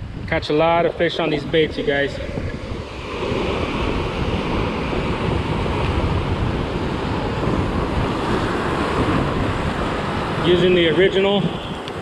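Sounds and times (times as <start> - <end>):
wind rumble on microphone: 0.0 - 12.0
surf washing over rocks: 0.3 - 12.0.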